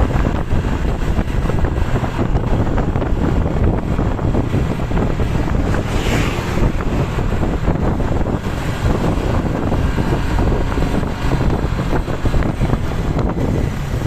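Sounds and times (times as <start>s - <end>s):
road vehicle rumble: 0.0s - 14.0s
wind noise on microphone: 0.0s - 14.0s.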